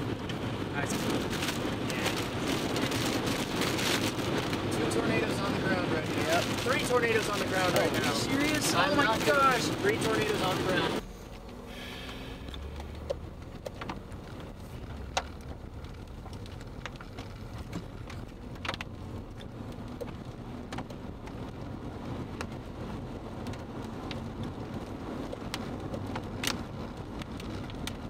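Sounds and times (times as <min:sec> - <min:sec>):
raindrops tapping on a car: 0:00.0 - 0:11.6, 0:12.5 - 0:28.0
low steady rumble: 0:00.0 - 0:28.0.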